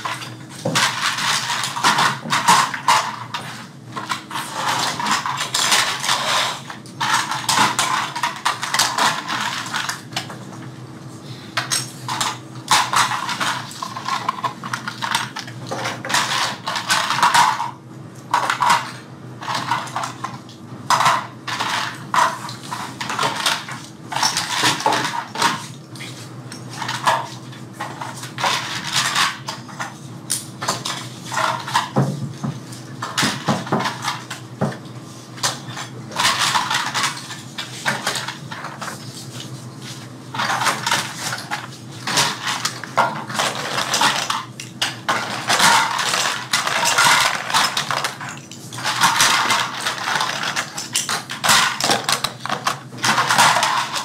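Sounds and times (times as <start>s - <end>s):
small plastic parts clattering: 0.0s - 10.3s, 11.6s - 25.6s, 26.7s - 32.2s, 35.4s - 39.0s, 40.3s - 54.0s.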